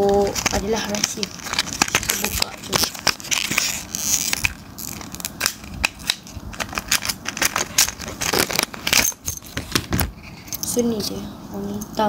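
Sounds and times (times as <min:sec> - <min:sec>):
plastic packaging crackling and clicking: 0:00.0 - 0:10.2.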